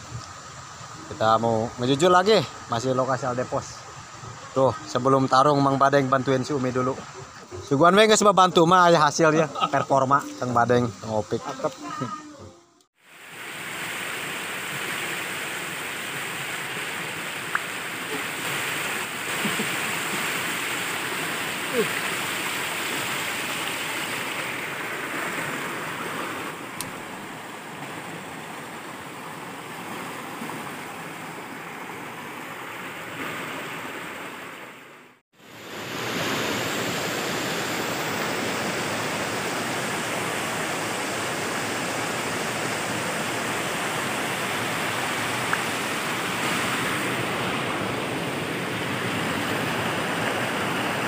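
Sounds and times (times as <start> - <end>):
water flowing over rocks: 0.0 - 51.0.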